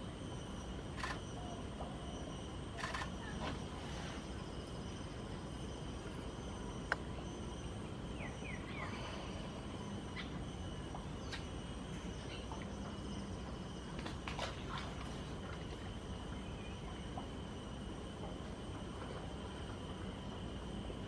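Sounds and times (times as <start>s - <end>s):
faint high buzz: 0.0s - 21.0s
steady hiss and low hum: 0.0s - 21.0s.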